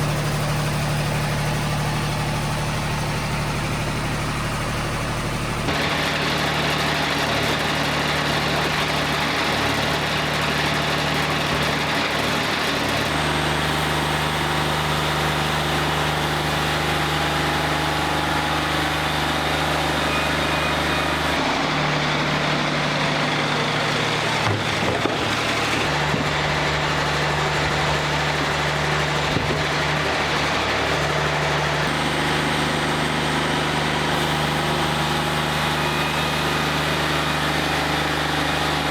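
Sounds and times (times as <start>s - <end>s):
diesel sawmill running: 0.0s - 38.9s.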